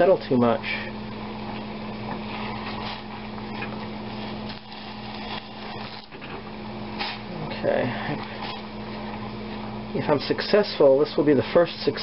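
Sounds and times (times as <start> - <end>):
liquid boiling in saucepan: 0.0 - 12.0.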